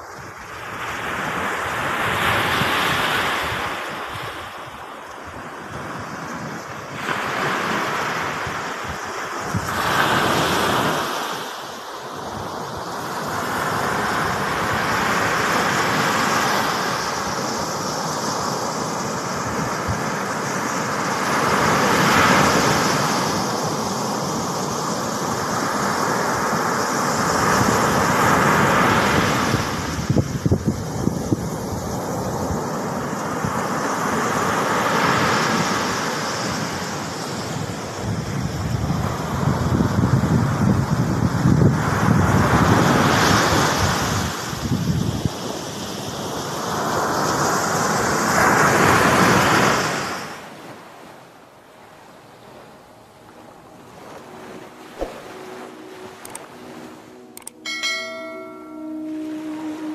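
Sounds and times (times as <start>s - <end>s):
sea waves breaking on a beach: 0.0s - 59.9s.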